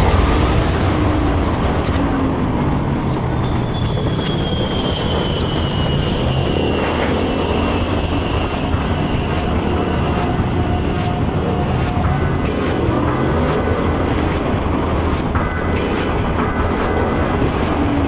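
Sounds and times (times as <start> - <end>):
rushing road noise: 0.0 - 18.0.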